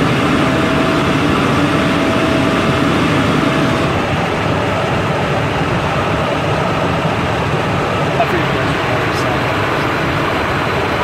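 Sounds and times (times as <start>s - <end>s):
aircraft engine and airflow drone: 0.0s - 11.0s.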